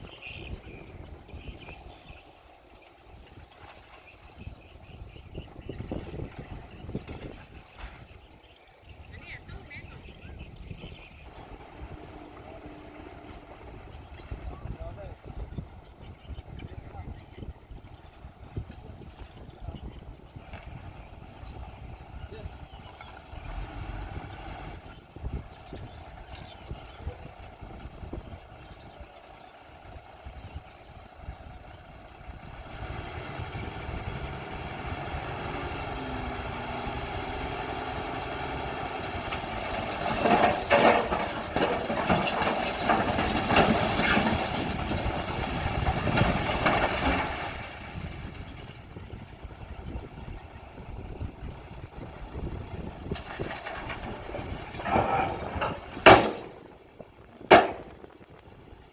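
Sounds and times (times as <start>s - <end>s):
bulldozer diesel engine: 0.0s - 58.9s.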